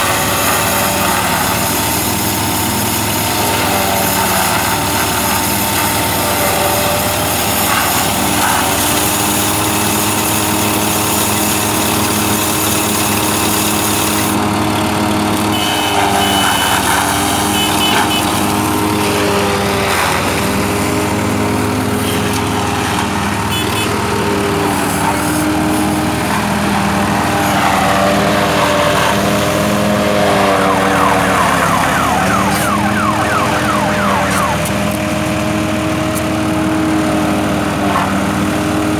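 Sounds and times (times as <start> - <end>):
baler machine running: 0.0 - 36.1.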